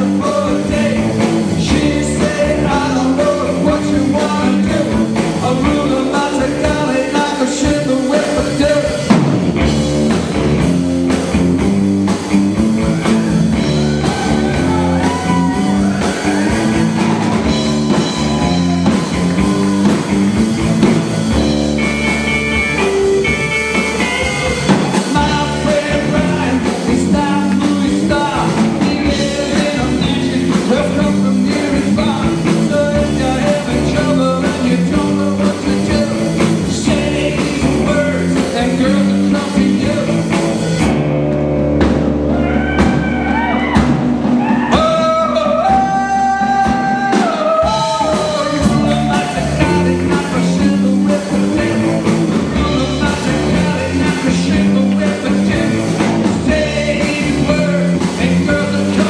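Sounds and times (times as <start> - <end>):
person singing: 0.0 - 9.3, 12.8 - 20.2, 22.8 - 40.7, 42.3 - 59.0
drum kit: 0.0 - 59.0
electric guitars: 0.0 - 59.0.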